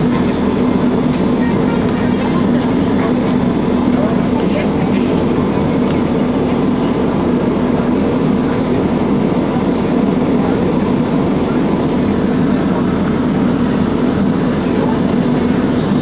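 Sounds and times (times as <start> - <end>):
tram running on track: 0.0 - 16.0.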